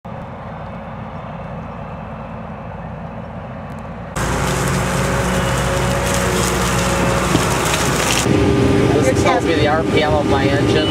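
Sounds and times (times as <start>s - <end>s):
machinery engine droning: 0.1s - 10.9s.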